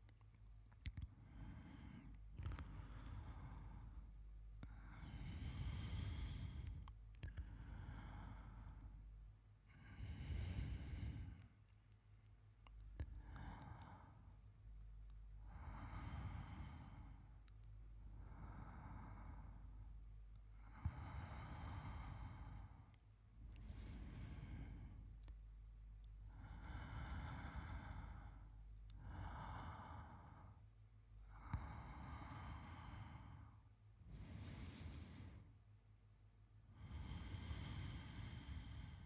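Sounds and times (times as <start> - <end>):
man breathing slowly: 1.0 - 14.7, 15.3 - 25.4, 26.1 - 35.6, 36.6 - 39.0.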